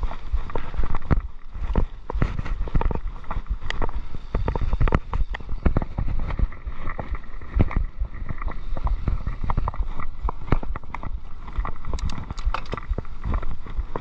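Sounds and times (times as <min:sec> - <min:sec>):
bike rattling over rough trail: 0:00.0 - 0:14.0
wind buffeting microphone: 0:00.0 - 0:14.0.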